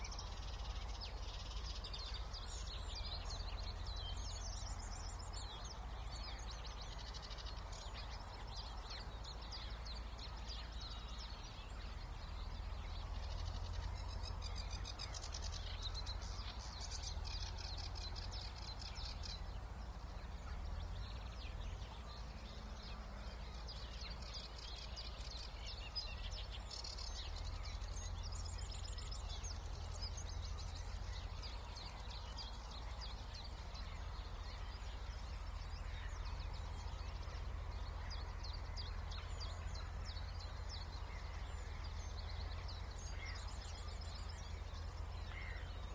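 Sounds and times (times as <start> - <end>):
songbirds singing: 0.0 - 45.9.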